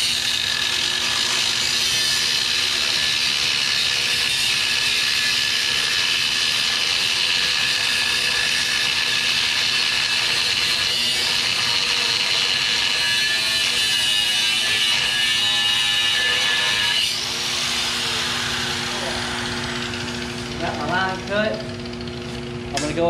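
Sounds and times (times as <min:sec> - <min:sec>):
cut-off wheel grinding steel: 0:00.0 - 0:22.7.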